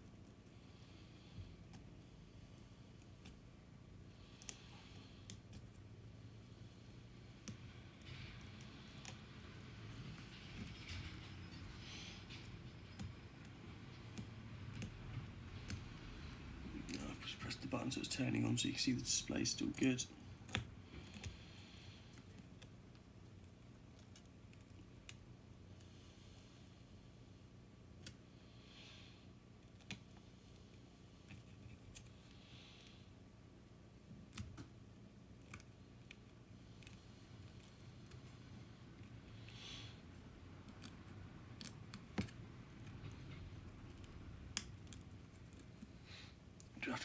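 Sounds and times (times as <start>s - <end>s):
faint room hum: 0.0s - 47.0s.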